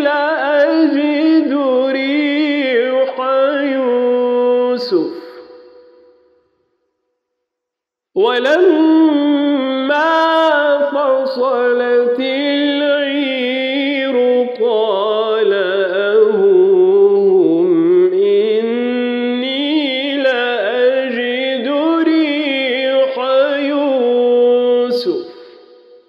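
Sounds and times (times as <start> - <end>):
man chanting melodically: 0.0 - 6.2, 8.2 - 25.9.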